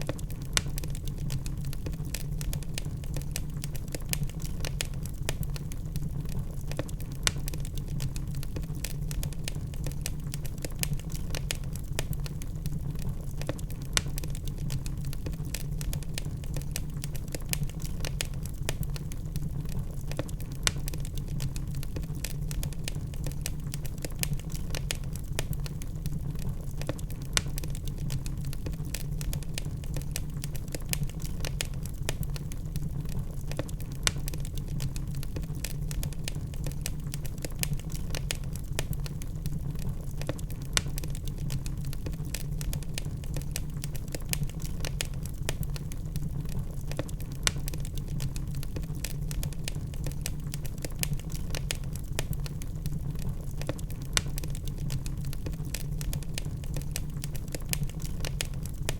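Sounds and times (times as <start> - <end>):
log fire crackling: 0.0 - 58.9.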